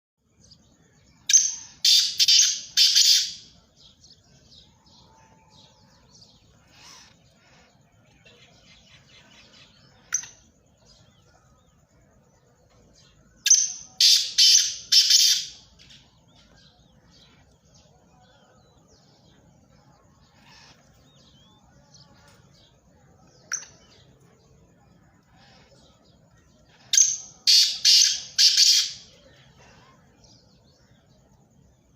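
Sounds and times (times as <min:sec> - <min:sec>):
francolin harsh calls: 0:00.4 - 0:12.1, 0:13.0 - 0:24.2, 0:24.9 - 0:31.2.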